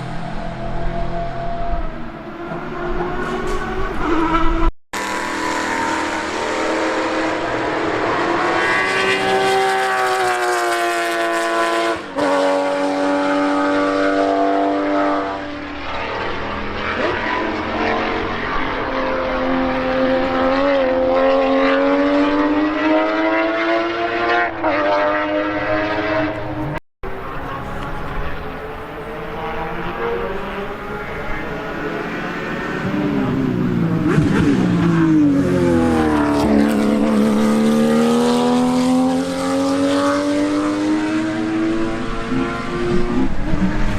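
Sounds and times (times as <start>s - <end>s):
racing car engine at full throttle: 0.0s - 43.9s.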